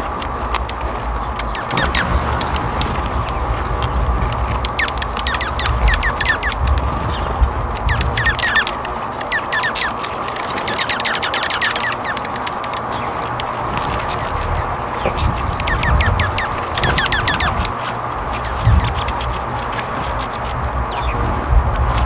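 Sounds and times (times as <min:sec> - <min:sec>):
songbirds chirping: 0:00.0 - 0:22.0
steady hiss and low rumble: 0:00.0 - 0:22.0.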